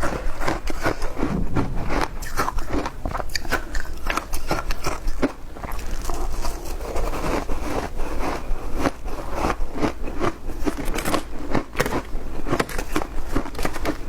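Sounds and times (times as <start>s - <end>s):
chewing shaved ice: 0.0s - 14.0s.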